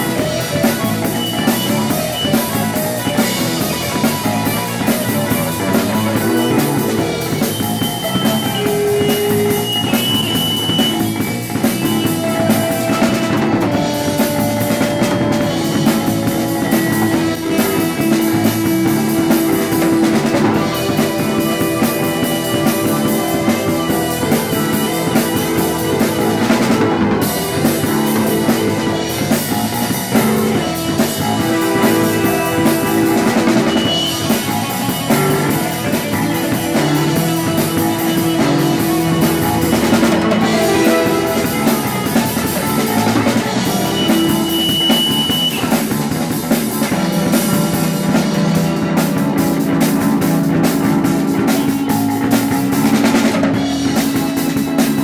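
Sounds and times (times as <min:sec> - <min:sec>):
sustained electric guitar notes: 0:00.0 - 0:54.8
drum kit beat: 0:00.0 - 0:55.0.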